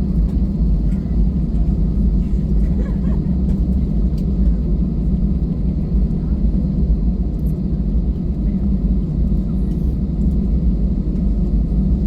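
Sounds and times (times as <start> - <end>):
jet cabin low rumble: 0.0 - 12.0.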